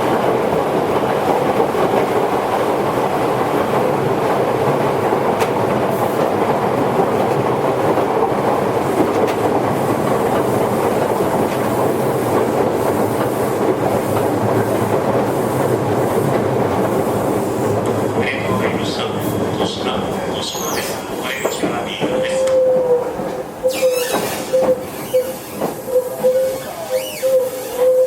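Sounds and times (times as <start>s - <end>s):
rail joint clicks: 0.0s - 28.0s
train wheels rumbling on rail: 0.0s - 28.0s.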